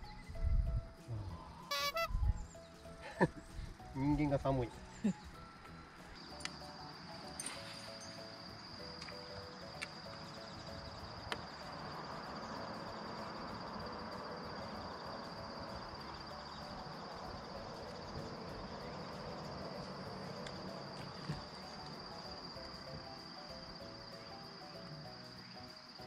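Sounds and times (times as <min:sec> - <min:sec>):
high thin insect drone: 0:00.0 - 0:26.0.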